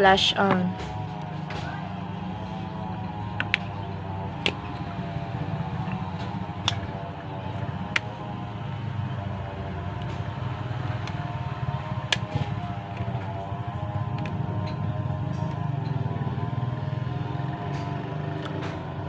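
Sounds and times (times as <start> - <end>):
steady droning hum: 0.0 - 19.0.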